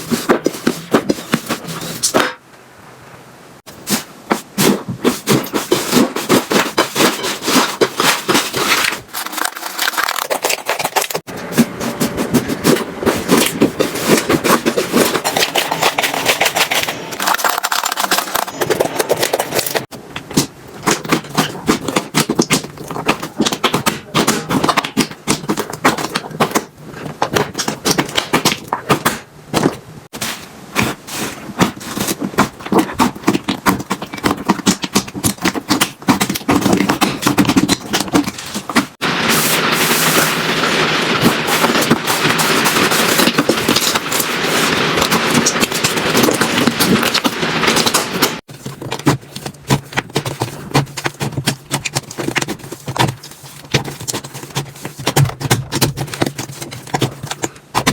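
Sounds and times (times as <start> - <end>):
hands squishing slime: 3.8 - 57.9.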